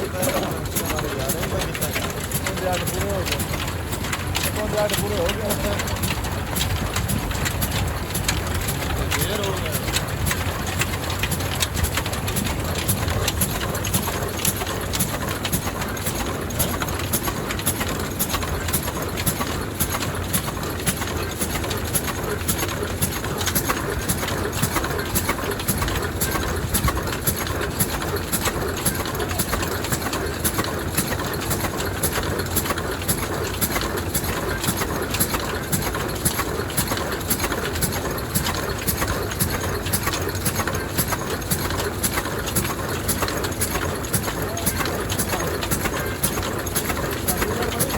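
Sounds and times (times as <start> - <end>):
diesel engine knocking: 0.0 - 47.9.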